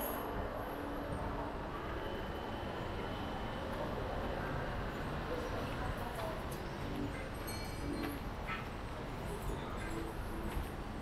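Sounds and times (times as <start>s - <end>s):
funfair background noise: 0.0s - 11.0s.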